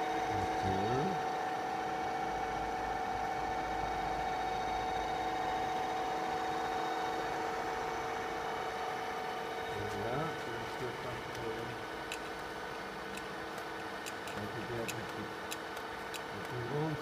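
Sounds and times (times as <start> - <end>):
radial drill humming: 0.0 - 17.0.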